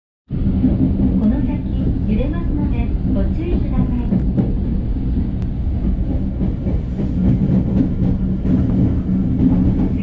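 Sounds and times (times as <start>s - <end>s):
train rumble and hum: 0.3s - 10.0s.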